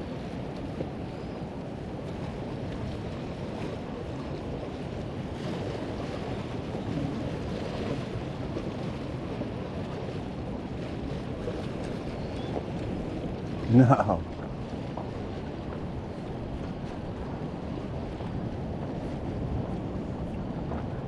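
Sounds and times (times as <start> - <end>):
waves lapping against rocks: 0.0 - 21.0
wind noise on microphone: 0.0 - 21.0.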